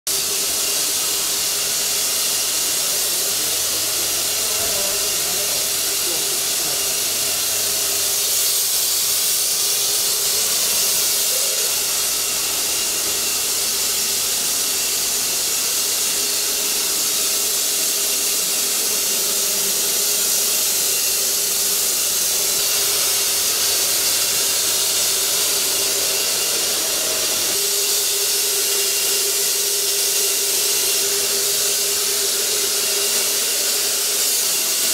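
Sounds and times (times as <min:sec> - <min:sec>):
fogger spraying hiss: 0:00.1 - 0:34.9
motor whine: 0:00.1 - 0:34.9.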